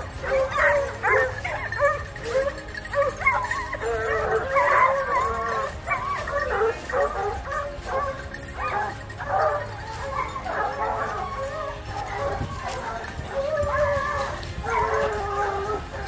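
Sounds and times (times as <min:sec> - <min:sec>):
pack of dogs baying: 0:00.0 - 0:16.0.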